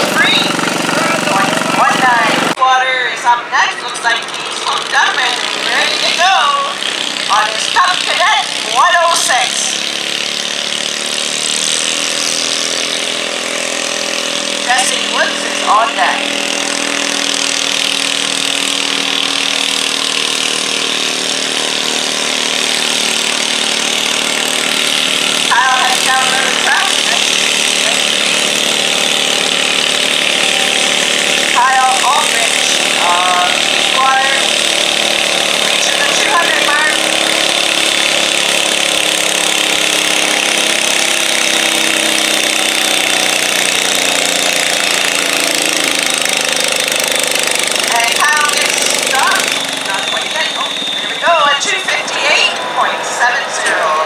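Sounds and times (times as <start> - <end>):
garden tractor engine at high revs: 0.0 - 54.0.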